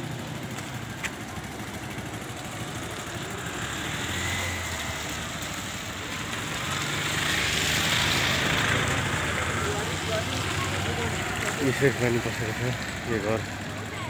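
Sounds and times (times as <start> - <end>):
motorbike engines passing: 0.0 - 14.0.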